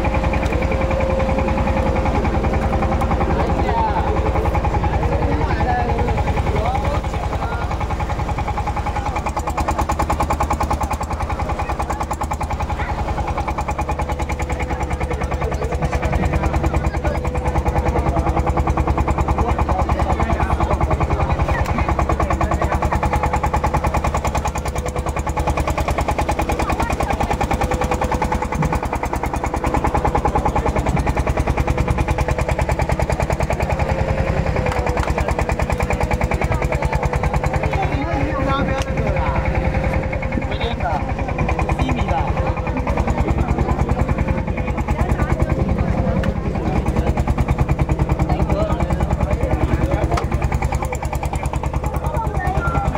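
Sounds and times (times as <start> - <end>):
boat engine idling: 0.0 - 52.9.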